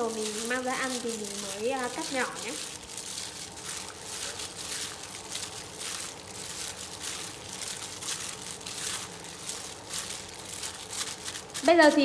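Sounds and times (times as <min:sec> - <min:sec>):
hand kneading meat: 0:00.0 - 0:12.0
plastic glove crinkling: 0:00.0 - 0:12.0.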